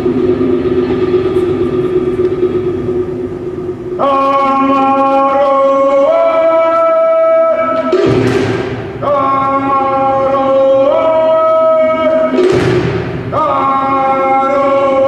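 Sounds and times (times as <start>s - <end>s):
voices chanting long notes: 0.0s - 15.0s.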